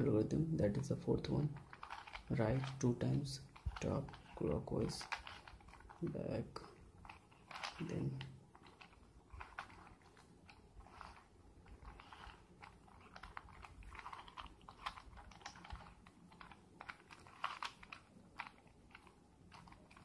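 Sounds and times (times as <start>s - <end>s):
plastic puzzle cube clicking: 1.3s - 20.0s.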